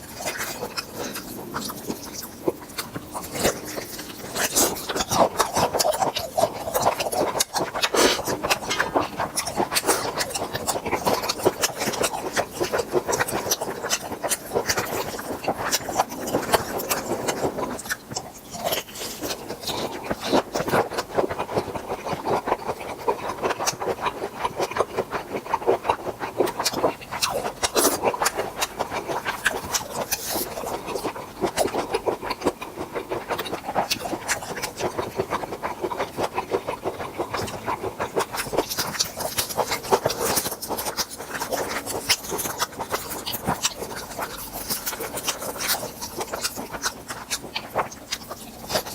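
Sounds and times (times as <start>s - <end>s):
wet chewing: 0.0s - 48.9s.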